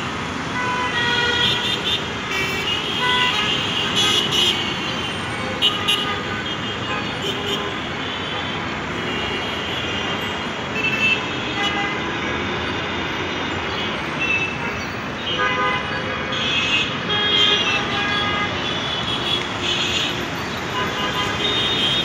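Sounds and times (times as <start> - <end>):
vehicle horns tooting: 0.6 - 12.7, 13.8 - 22.0.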